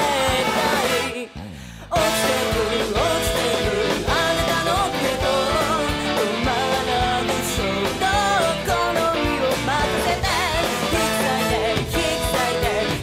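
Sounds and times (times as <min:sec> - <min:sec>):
pop-rock song: 0:00.0 - 0:13.0.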